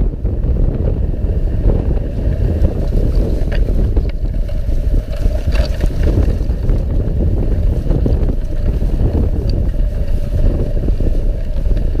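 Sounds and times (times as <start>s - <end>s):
sled travelling over snow: 0.0s - 12.0s
wind buffeting microphone: 0.0s - 12.0s.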